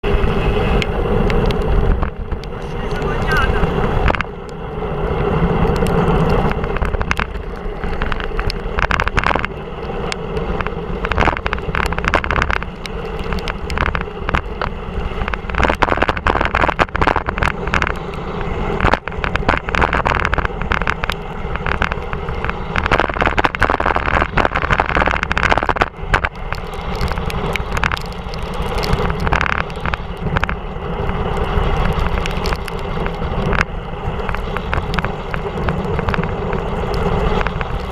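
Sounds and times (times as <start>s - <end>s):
wind rushing over microphone: 0.0s - 37.9s
tyres hissing on wet road: 0.1s - 37.9s
sharp clicks and knocks: 4.0s - 4.3s, 5.7s - 18.2s, 18.8s - 37.9s.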